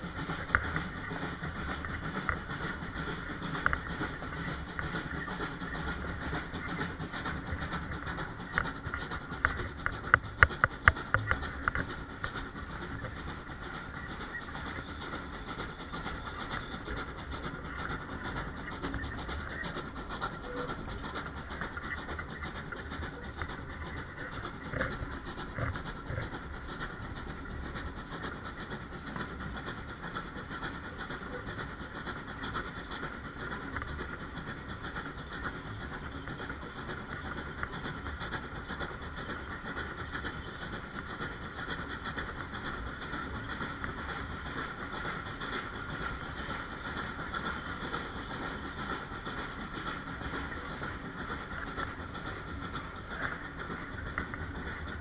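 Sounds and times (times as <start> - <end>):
train wheels rumbling on rails: 0.0 - 55.0
wheels clacking over rail joints: 0.0 - 55.0.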